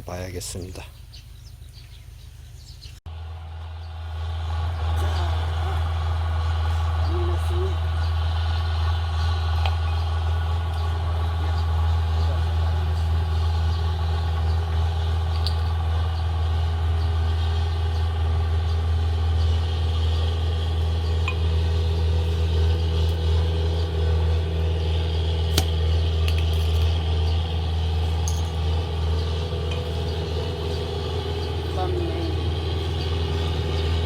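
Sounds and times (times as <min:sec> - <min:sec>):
engine humming: 0:00.0 - 0:34.0.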